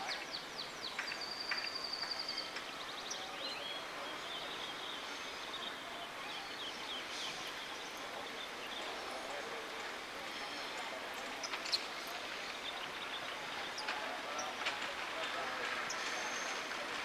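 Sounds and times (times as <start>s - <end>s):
small birds chirping: 0.0s - 14.6s.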